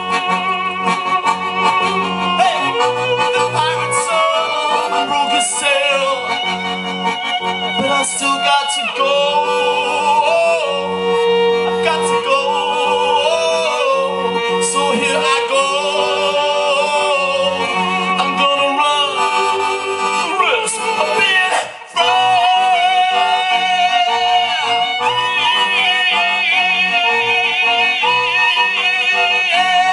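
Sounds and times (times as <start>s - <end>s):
accordion: 0.0s - 29.9s
violin: 0.0s - 29.9s
man singing into microphone: 2.3s - 6.6s, 7.7s - 11.0s, 11.6s - 29.9s.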